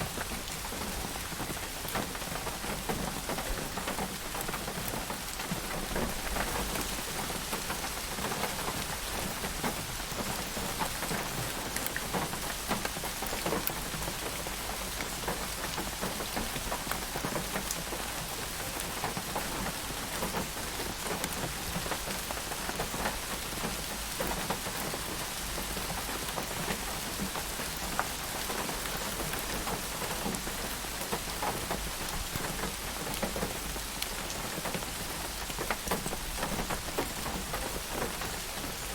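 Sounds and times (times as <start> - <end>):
rain hiss: 0.0 - 38.9
raindrops ticking: 0.0 - 38.9.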